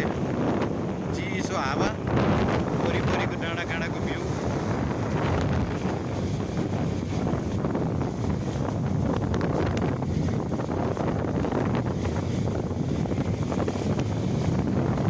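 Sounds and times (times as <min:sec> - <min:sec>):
road noise rumble: 0:00.0 - 0:15.0
wind buffeting microphone: 0:00.0 - 0:15.0.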